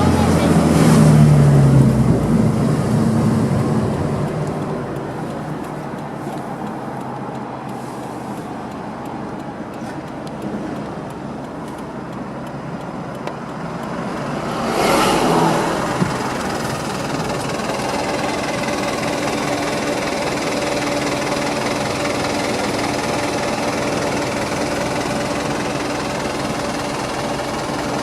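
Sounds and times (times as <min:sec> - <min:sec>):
car engine through exhaust: 0:00.0 - 0:28.0.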